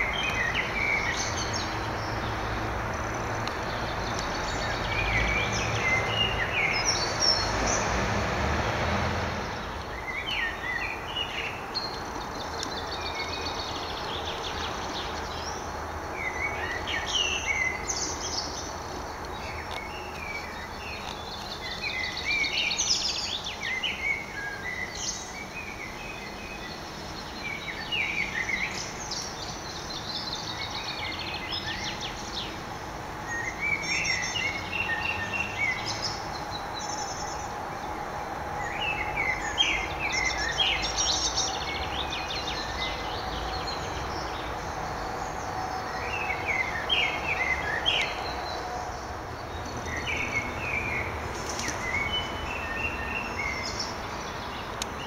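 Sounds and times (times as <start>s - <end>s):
outdoor background noise: 0.0s - 55.0s
songbirds singing: 0.0s - 55.0s.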